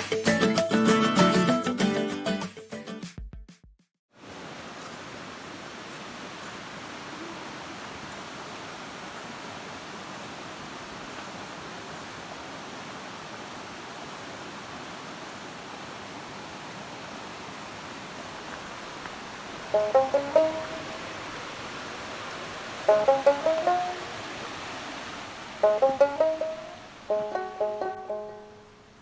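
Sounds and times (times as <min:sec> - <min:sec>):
water rushing: 0:04.2 - 0:29.0.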